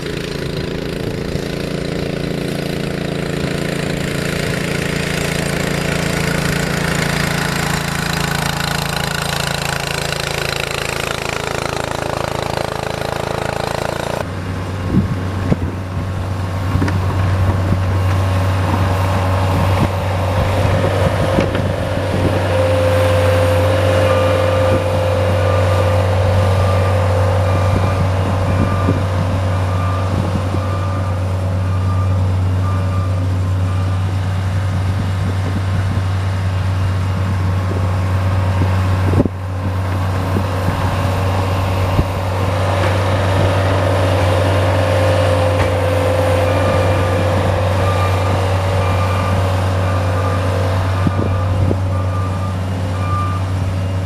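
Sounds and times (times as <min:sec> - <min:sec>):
snow-clearing machine engine: 0:00.0 - 0:54.0.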